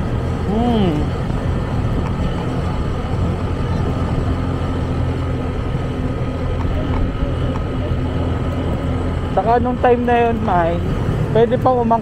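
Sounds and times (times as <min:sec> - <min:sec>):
engine hum: 0:00.0 - 0:12.0
road noise: 0:00.0 - 0:12.0.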